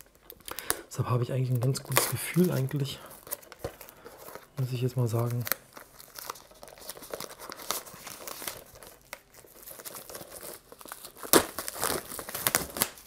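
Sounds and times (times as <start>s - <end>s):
plastic shrink-wrap crinkling: 0.0s - 13.0s.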